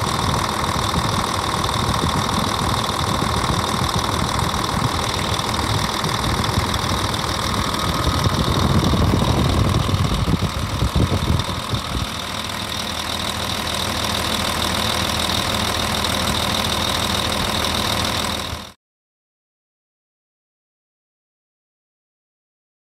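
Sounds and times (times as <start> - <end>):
diesel engine idling: 0.0 - 18.8.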